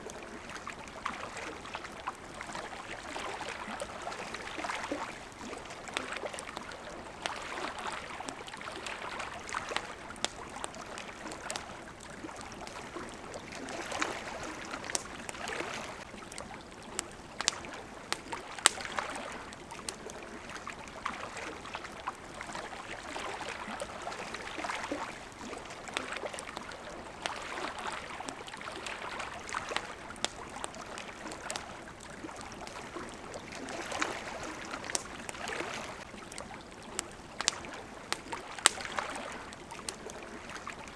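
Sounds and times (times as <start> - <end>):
campfire pops and crackles: 0.0 - 40.9
small waves lapping at shore: 0.0 - 40.9.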